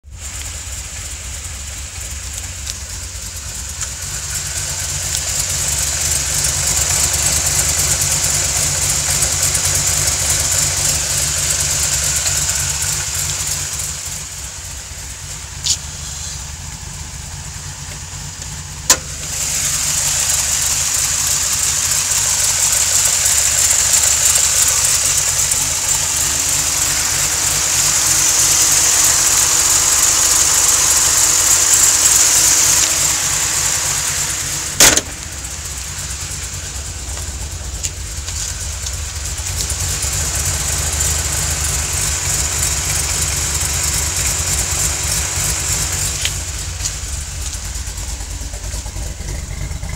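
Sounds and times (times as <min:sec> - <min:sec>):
car engine idling: 0:00.0 - 0:49.9
high-pitched hiss: 0:00.1 - 0:49.9.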